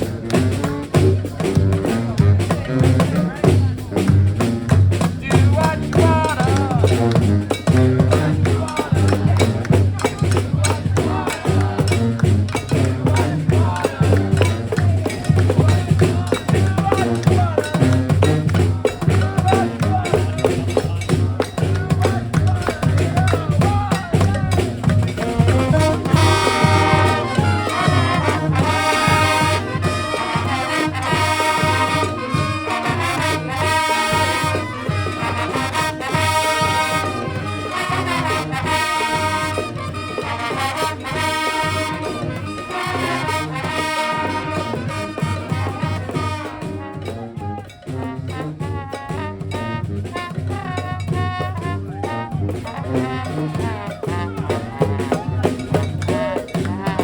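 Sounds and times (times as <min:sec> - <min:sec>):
brass band playing: 0:00.0 - 0:57.0
steady drum beat: 0:00.0 - 0:57.0.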